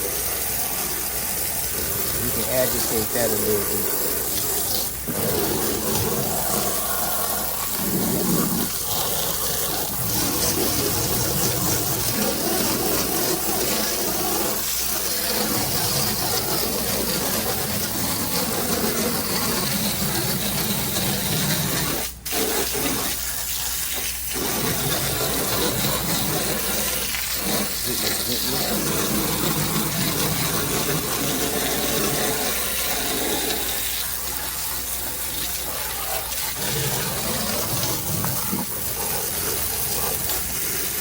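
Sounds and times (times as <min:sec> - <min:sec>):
water spraying from hose: 0:00.0 - 0:41.0.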